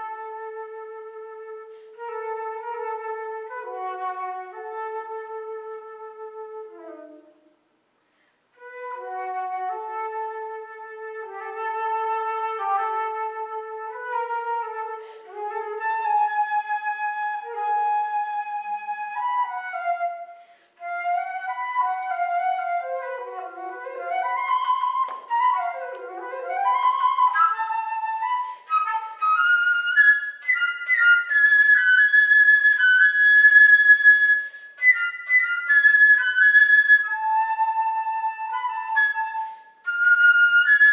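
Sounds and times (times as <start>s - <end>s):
solo flute playing: 0.0s - 7.6s, 8.6s - 40.9s.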